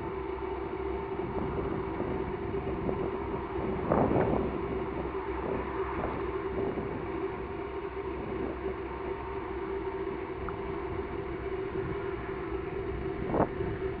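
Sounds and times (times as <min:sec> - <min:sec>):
steady motor hum: 0:00.0 - 0:14.0
wind rumble on microphone: 0:00.0 - 0:14.0.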